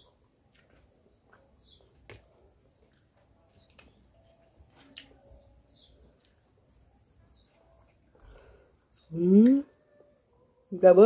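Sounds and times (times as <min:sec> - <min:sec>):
bird chirp: 0:00.0 - 0:10.2.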